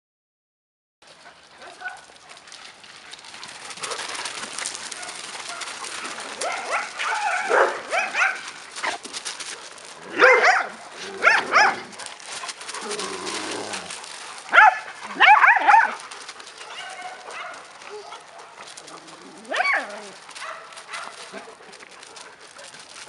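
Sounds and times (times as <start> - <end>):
footsteps on gravel: 1.2 - 23.0
dogs and puppies barking: 1.3 - 23.0.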